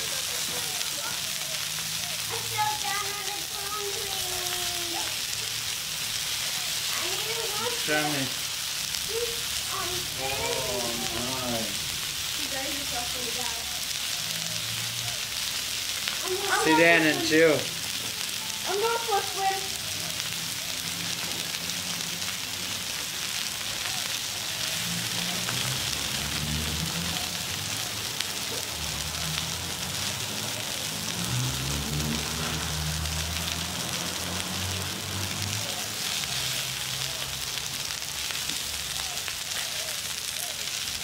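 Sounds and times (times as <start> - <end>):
meat sizzling on a hotplate: 0.0 - 41.0.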